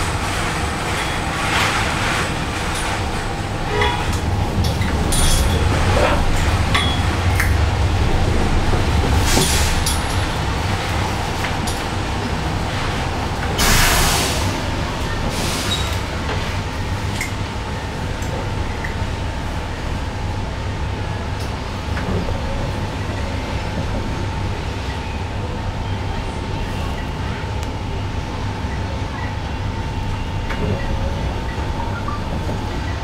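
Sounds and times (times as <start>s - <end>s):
bus interior rumble and hum: 0.0s - 33.0s.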